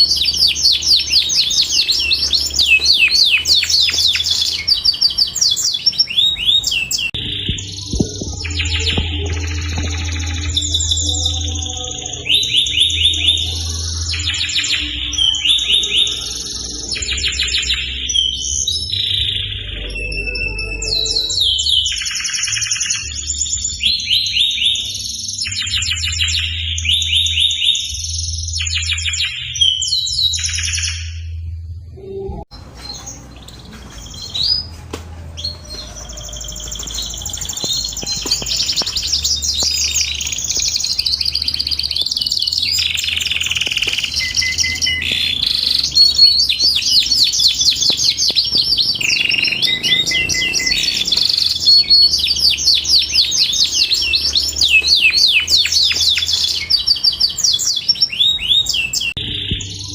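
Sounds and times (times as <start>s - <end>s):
canary singing trills: 0.0s - 31.4s, 32.0s - 59.9s.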